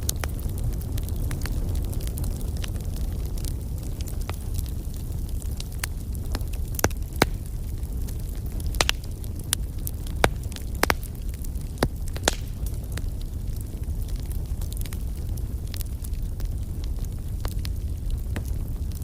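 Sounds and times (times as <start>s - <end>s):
burning logs crackling and popping: 0.0s - 19.0s
fire low rumble: 0.0s - 19.0s.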